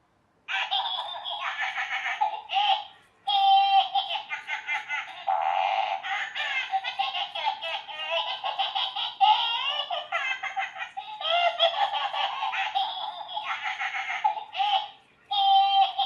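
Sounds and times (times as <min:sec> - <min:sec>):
toy laughter through small speaker: 0:00.5 - 0:16.0.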